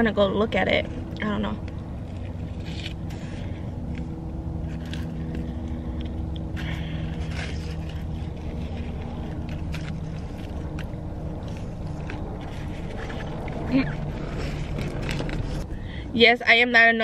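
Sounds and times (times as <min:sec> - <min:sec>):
car engine idling: 0:00.0 - 0:17.0
paper wrappers rustling: 0:01.6 - 0:15.7.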